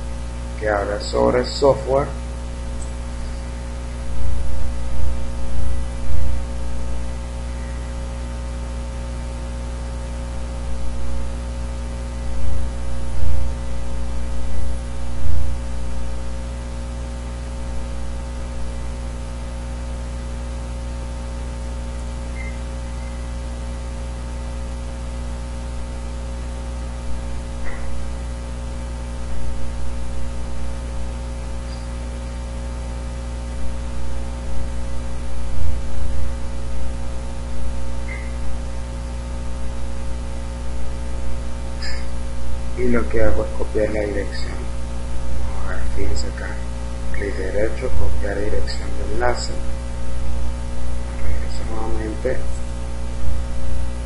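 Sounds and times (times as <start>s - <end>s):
electrical mains hum: 0.0s - 54.0s
microphone hiss: 0.0s - 54.0s.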